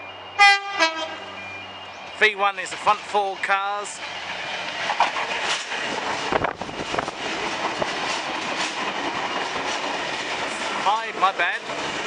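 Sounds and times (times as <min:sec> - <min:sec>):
train passing rumble: 0:00.0 - 0:12.0.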